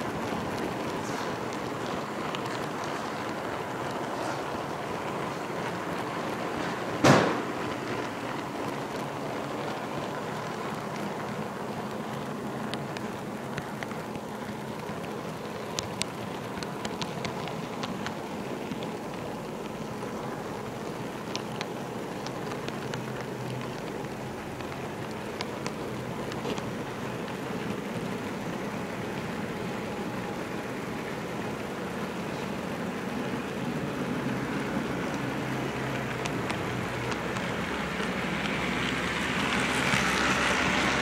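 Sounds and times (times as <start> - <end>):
model train rolling on track: 0.0 - 41.0
wheels clicking over rail joints: 0.0 - 41.0.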